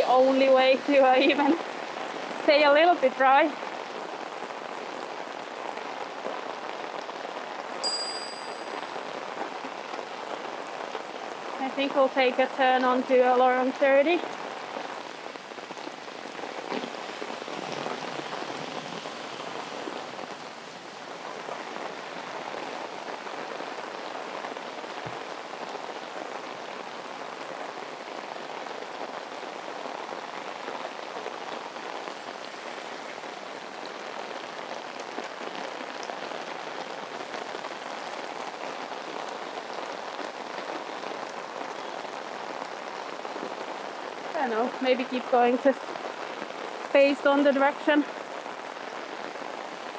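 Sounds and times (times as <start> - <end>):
heavy rain on pavement: 0.0 - 49.9.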